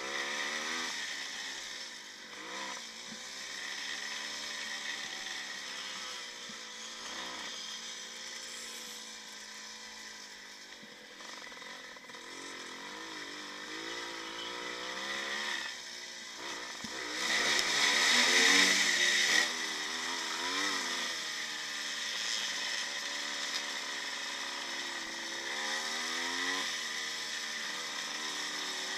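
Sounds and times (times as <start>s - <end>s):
two-stroke motorcycle engine running: 0.0s - 28.9s.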